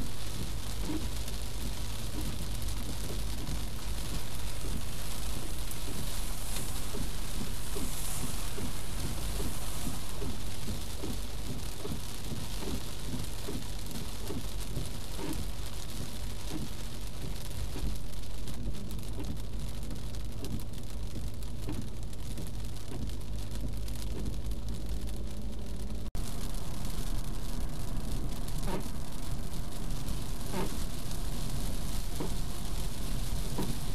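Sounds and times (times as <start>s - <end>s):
heavy rain on car: 0.0s - 33.9s
low road and engine rumble: 0.0s - 33.9s.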